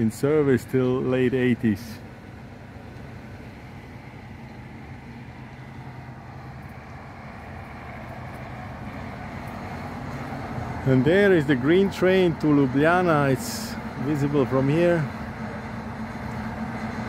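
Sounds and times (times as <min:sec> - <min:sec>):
diesel train engine idling: 0:00.0 - 0:17.0.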